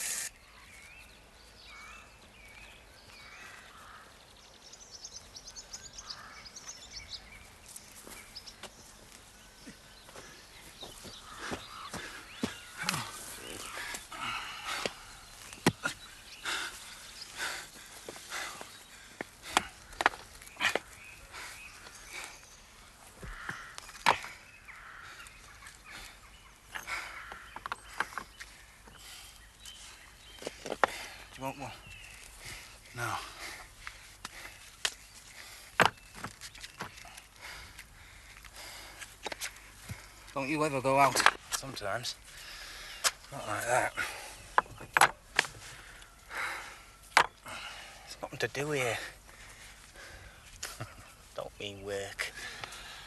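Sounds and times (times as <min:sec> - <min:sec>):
birds chirping and twittering: 0:00.0 - 0:53.0.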